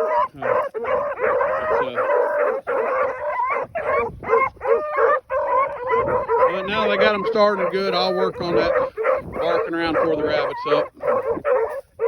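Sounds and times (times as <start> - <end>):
dogs barking and baying: 0.0 - 12.0.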